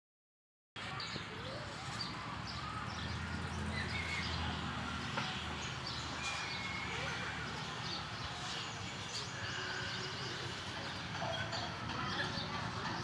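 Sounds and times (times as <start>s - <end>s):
birds chirping: 0.8s - 13.0s.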